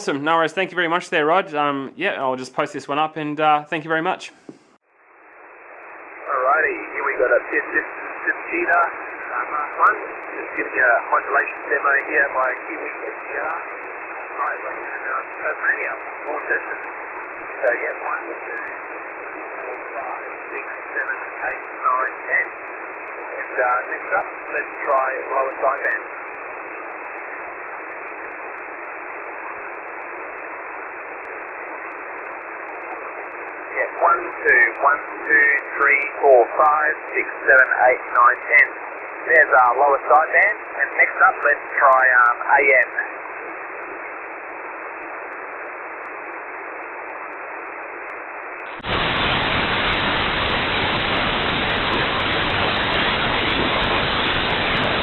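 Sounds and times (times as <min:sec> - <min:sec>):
radio receiver hiss: 0:00.0 - 0:55.0.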